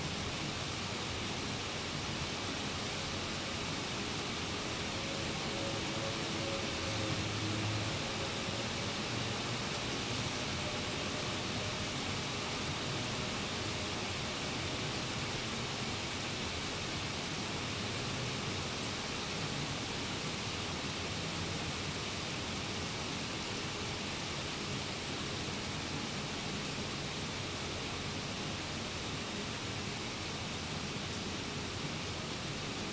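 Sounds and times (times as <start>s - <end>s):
steady rain hissing: 0.0s - 32.9s.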